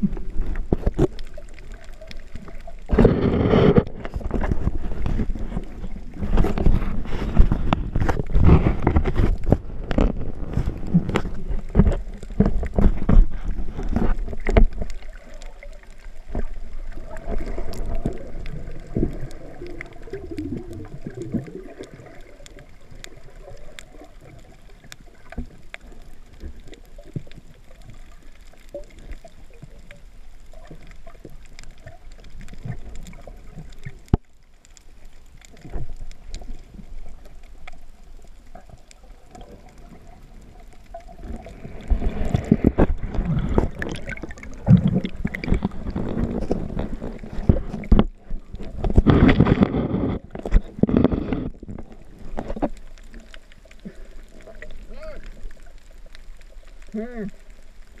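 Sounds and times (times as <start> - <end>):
muffled underwater sloshing: 0.0 - 58.0
steady underwater wash: 0.0 - 58.0.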